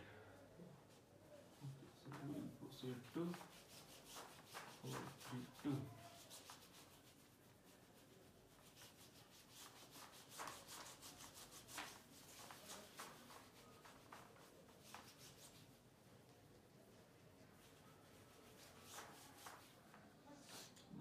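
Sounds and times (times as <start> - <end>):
cloth wiping a chart: 0.9 - 20.8.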